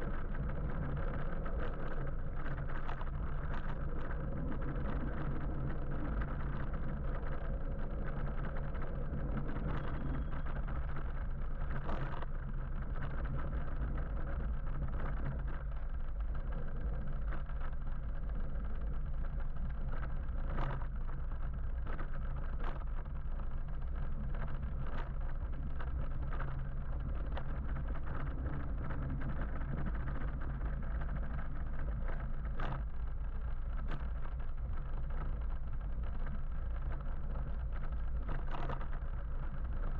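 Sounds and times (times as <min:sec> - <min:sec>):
road and traffic rumble: 0:00.0 - 0:39.9.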